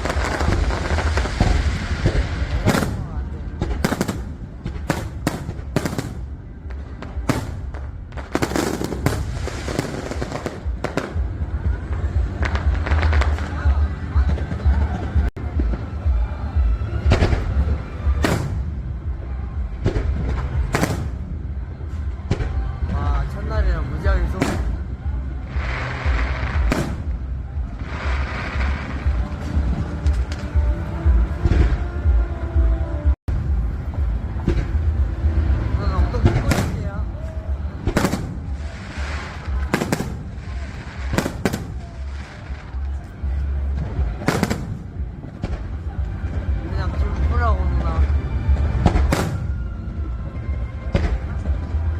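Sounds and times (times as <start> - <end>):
fireworks bursting: 0.0 - 31.9, 33.3 - 47.4, 48.0 - 50.0
low rumble: 0.0 - 51.9.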